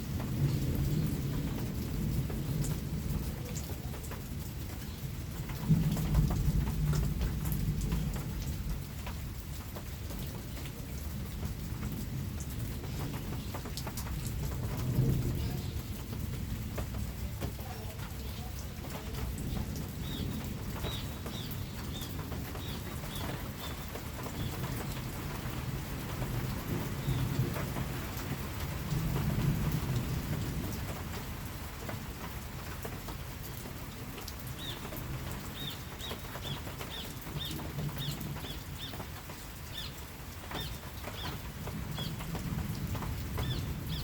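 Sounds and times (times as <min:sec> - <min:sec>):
distant thunder rumble: 0:00.0 - 0:44.0
steady rain falling: 0:00.0 - 0:44.0.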